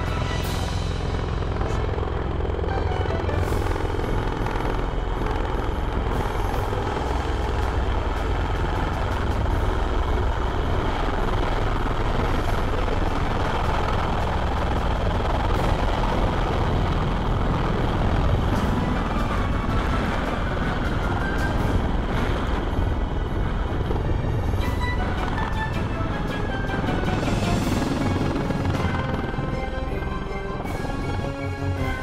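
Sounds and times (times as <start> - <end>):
deep rotor noise: 0.0 - 32.0.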